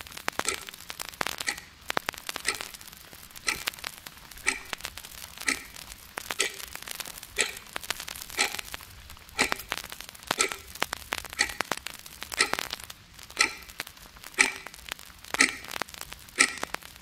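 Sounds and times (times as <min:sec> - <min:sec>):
wall clock ticking: 0:00.4 - 0:02.8, 0:03.4 - 0:17.0.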